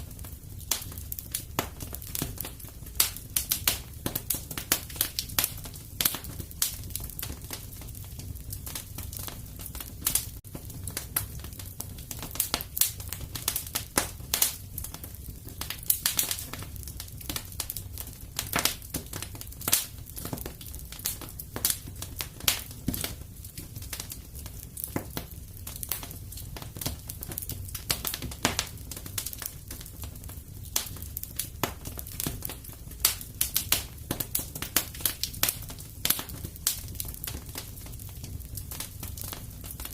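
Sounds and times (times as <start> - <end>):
fire low rumble: 0.0 - 39.9
fire popping and snapping: 0.0 - 39.9.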